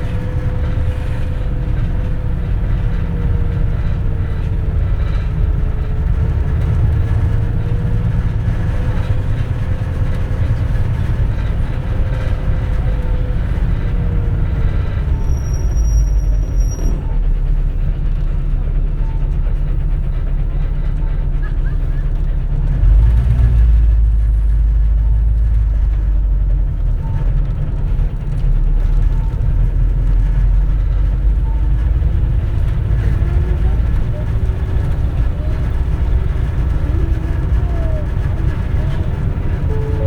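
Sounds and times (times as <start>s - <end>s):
bus engine low rumble: 0.0s - 40.0s
drivetrain whine: 0.0s - 40.0s.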